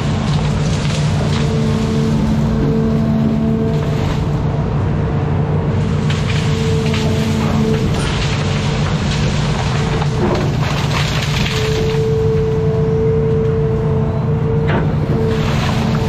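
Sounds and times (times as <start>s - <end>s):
branches cracking and snapping: 0.0s - 2.8s, 3.4s - 4.4s, 5.8s - 13.6s, 14.7s - 16.0s
excavator diesel engine: 0.0s - 16.0s.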